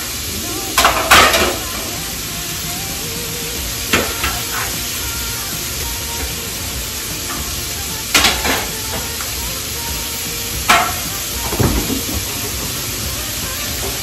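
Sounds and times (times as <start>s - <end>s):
sausage sizzling on griddle: 0.0s - 14.0s.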